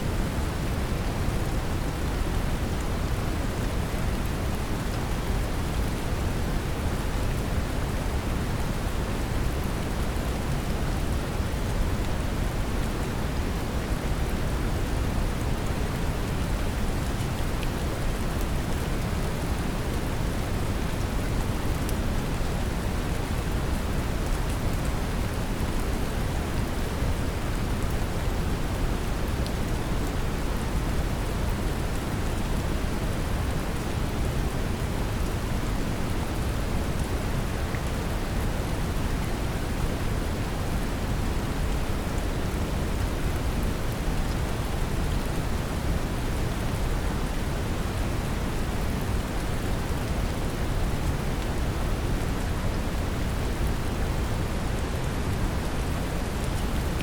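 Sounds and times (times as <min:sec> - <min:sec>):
gentle rain hiss: 0:00.0 - 0:57.0.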